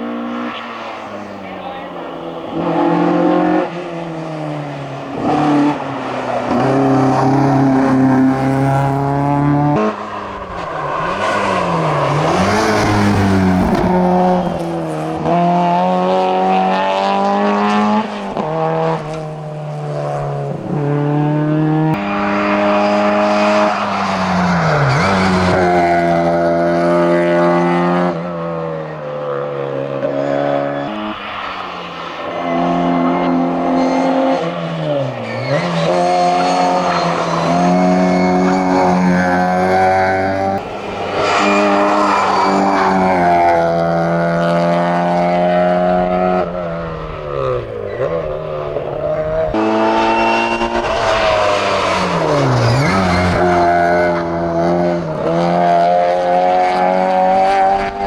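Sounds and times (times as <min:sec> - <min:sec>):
racing car engine revving through gears: 0:00.0 - 0:58.0.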